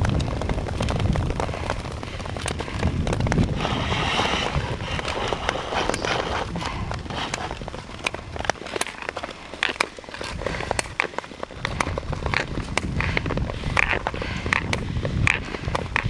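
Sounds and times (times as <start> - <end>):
wind rumbling on microphone: 0.0 - 16.0
ice skate blades scraping ice: 1.4 - 16.0.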